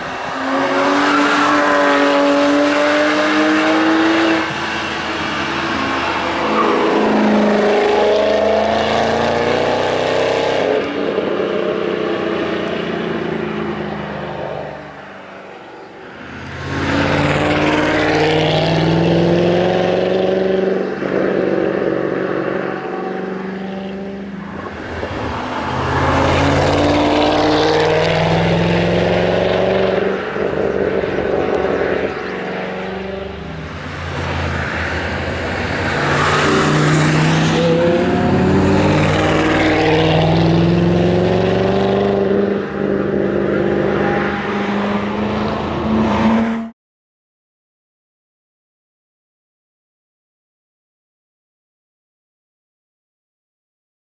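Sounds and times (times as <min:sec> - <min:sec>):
car engine accelerating hard: 0:00.0 - 0:14.2, 0:16.4 - 0:46.7.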